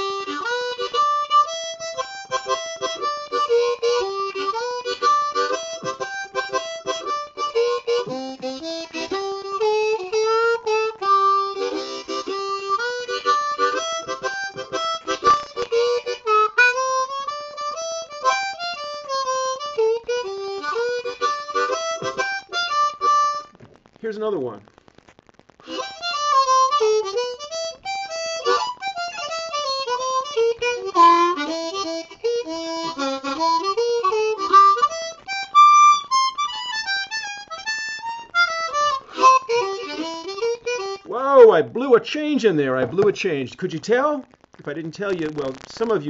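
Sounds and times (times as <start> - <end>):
blues harmonica: 0.0 - 24.0, 24.9 - 42.3, 44.4 - 46.0.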